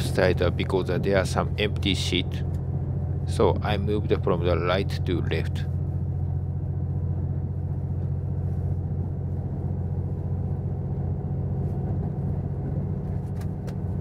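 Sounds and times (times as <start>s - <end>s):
train engine drone: 0.0s - 14.0s
wheels rumbling on track: 0.0s - 14.0s.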